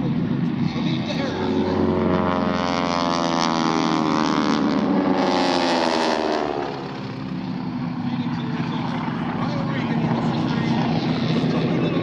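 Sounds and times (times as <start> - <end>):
aircraft engine flying past: 0.0 - 12.0.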